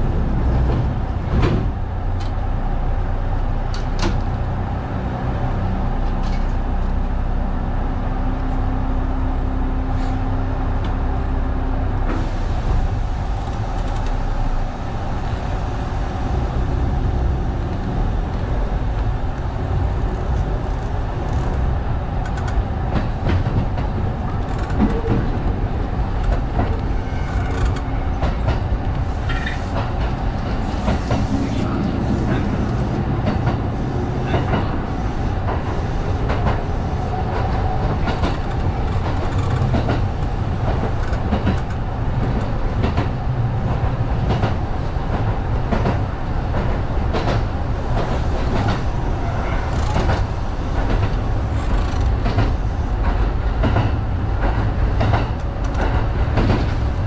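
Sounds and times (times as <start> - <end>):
electric train rumble: 0.0 - 57.0.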